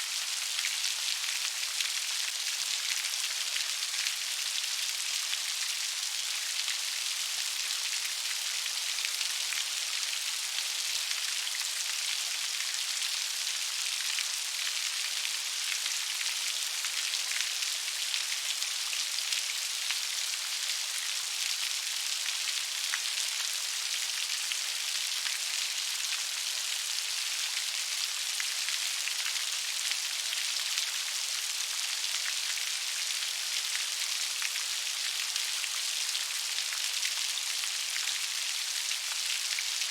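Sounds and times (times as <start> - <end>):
gentle rain patter: 0.0 - 39.9.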